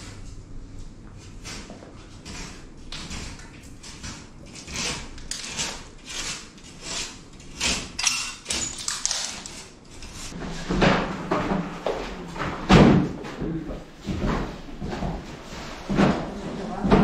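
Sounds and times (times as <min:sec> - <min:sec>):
renovation scrapes and knocks: 0:01.1 - 0:17.0.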